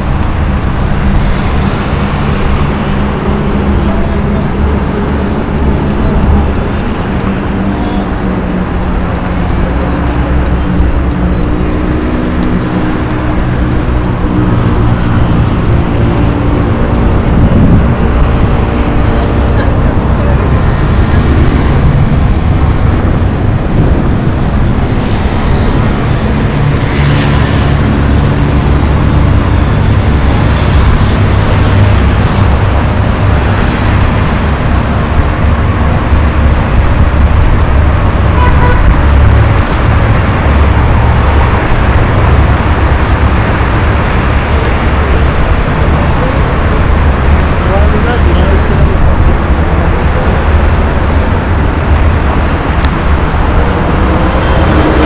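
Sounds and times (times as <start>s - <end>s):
heavy road traffic: 0.0s - 55.0s.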